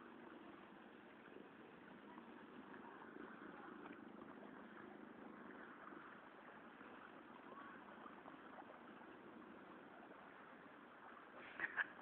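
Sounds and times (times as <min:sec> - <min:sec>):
people wading through floodwater: 0:00.0 - 0:12.0.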